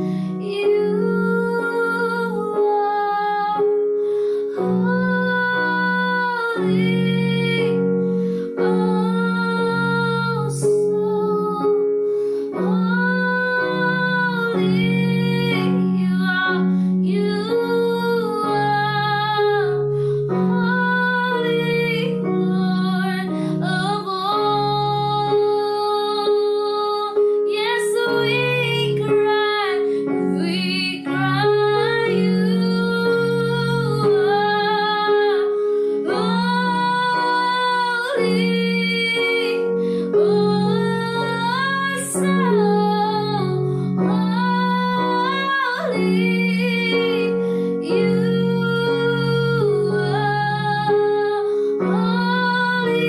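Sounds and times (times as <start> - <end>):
sustained keyboard chords: 0.0 - 53.0
woman singing worship song: 0.0 - 53.0.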